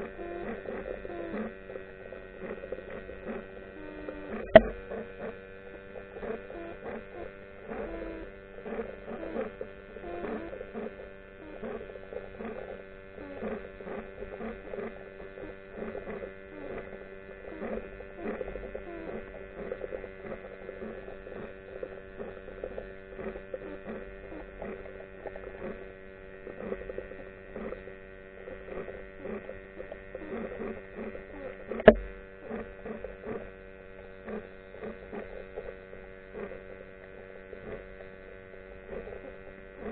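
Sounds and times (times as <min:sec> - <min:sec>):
faint clicks and crackles: 0:00.0 - 0:39.9
underwater hum: 0:00.0 - 0:39.9.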